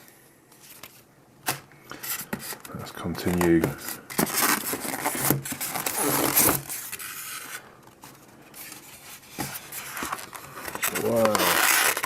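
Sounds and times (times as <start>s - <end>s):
cardboard rustling and scraping: 0.6s - 12.0s.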